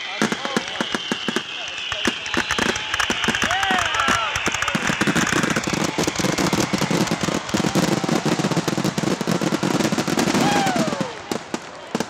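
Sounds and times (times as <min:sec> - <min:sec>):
fireworks barrage bangs and crackles: 0:00.0 - 0:12.0.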